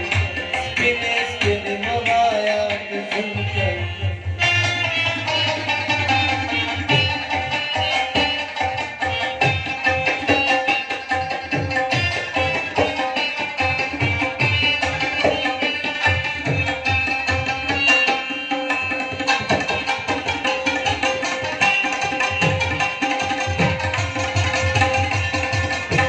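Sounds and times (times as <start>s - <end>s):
plucked rubab: 0.0s - 26.0s
tabla strokes: 0.0s - 26.0s.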